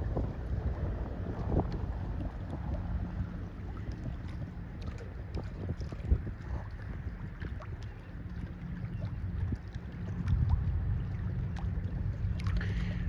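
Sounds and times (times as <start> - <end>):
ship low rumble and hum: 0.0 - 13.0
wind buffeting microphone: 0.0 - 13.0.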